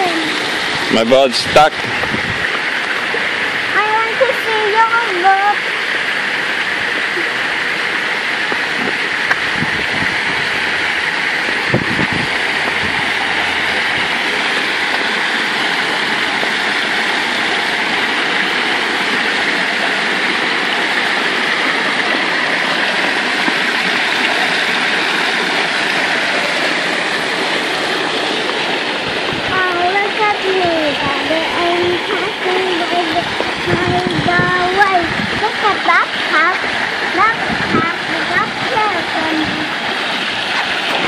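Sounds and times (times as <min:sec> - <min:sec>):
water splashing down cascades: 0:00.0 - 0:41.0.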